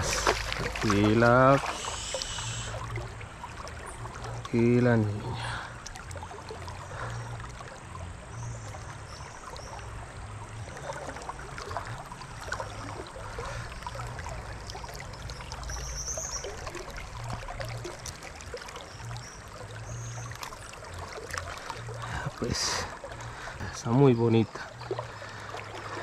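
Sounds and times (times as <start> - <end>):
river water rushing: 0.0 - 26.0
small splashes: 0.0 - 26.0.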